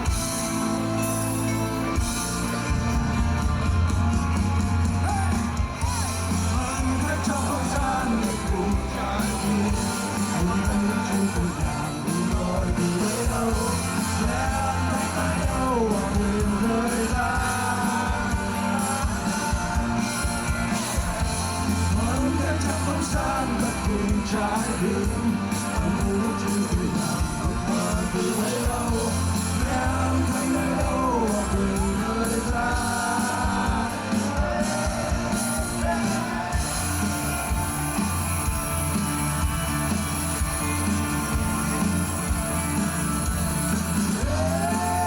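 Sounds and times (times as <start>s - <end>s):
bending melodic guitar lead: 0.0s - 45.0s
rock band playing live: 0.0s - 45.0s.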